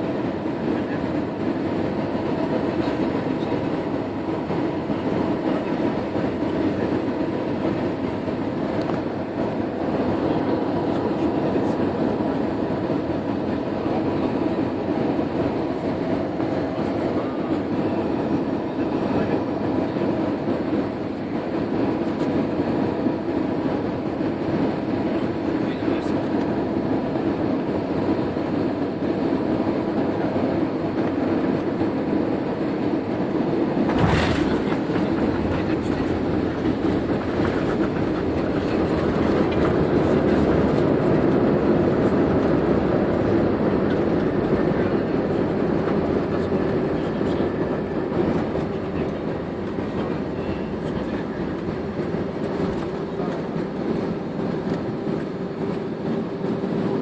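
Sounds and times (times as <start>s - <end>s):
airliner engines and landing gear: 0.0s - 57.0s.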